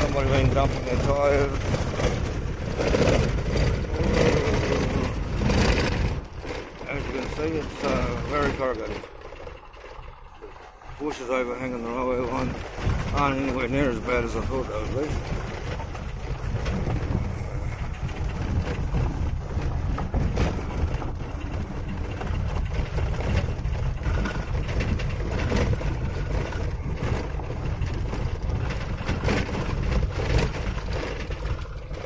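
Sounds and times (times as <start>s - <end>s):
tyres rumbling on gravel: 0.0s - 32.0s
vehicle rattles and knocks: 0.0s - 32.0s.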